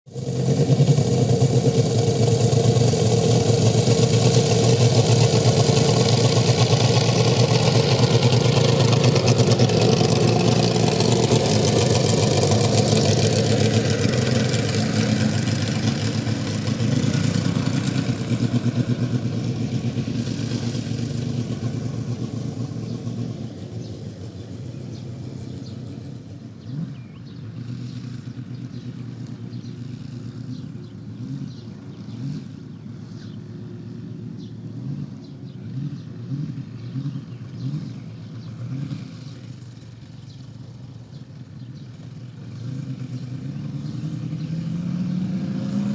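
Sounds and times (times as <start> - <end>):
model airplane engine running: 0.1 - 45.9.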